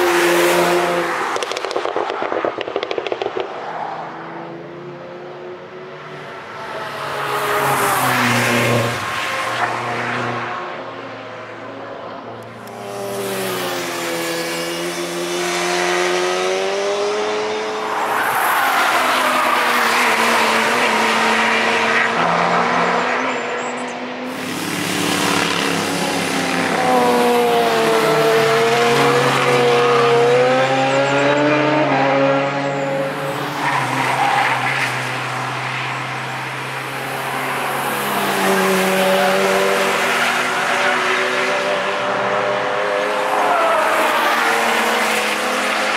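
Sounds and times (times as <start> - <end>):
race cars passing at speed: 0.0 - 45.9.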